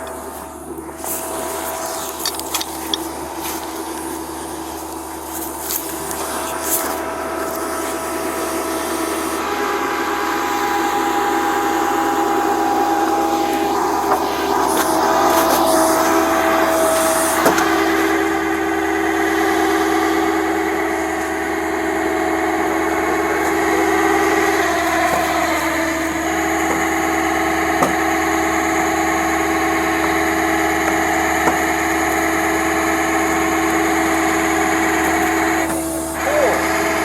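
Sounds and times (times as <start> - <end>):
truck engine whining: 0.0 - 37.0.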